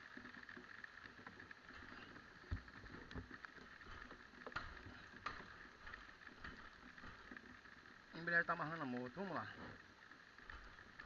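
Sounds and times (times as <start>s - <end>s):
rain patter: 0.0s - 11.0s.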